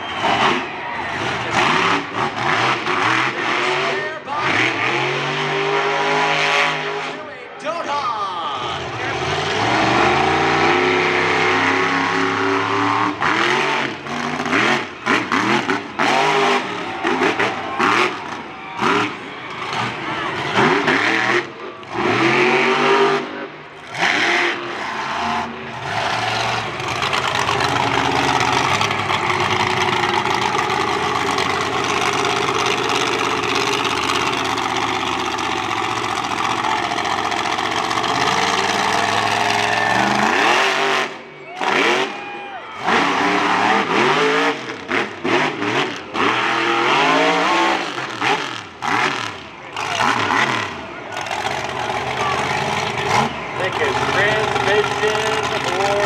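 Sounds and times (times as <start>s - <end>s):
monster truck engine revving: 0.0s - 7.3s, 8.4s - 56.0s.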